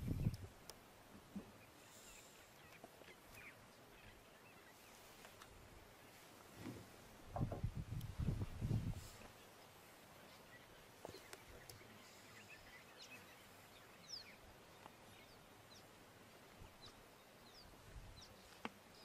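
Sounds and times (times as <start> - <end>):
faint bird chirps: 1.3 - 6.3, 8.1 - 19.0.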